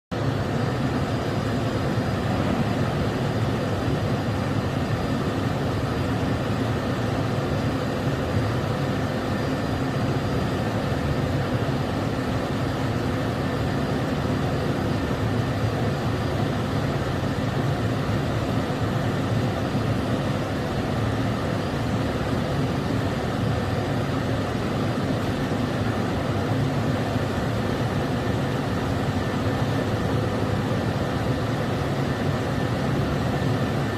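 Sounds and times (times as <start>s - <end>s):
faint high whine: 0.1s - 33.9s.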